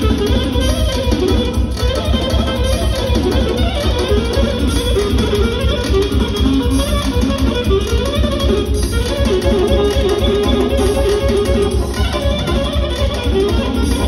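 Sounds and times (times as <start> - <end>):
bass beat: 0.0 - 14.0
clarinet melody: 0.0 - 14.0
keyboard accompaniment: 0.0 - 14.0.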